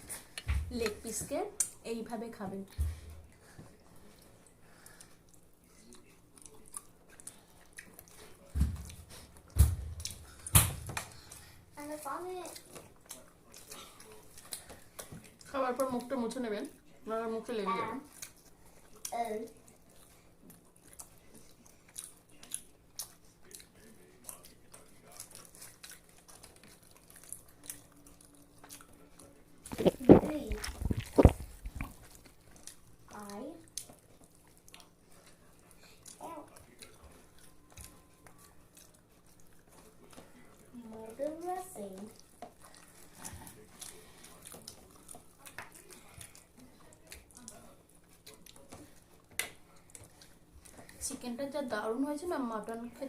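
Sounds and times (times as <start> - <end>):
chewing with wet mouth smacks: 3.3 - 11.6, 12.4 - 17.0, 18.1 - 51.2.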